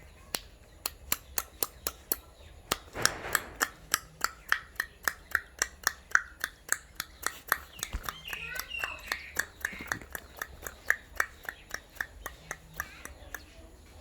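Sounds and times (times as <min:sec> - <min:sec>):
sharp clicks: 0:00.3 - 0:13.5.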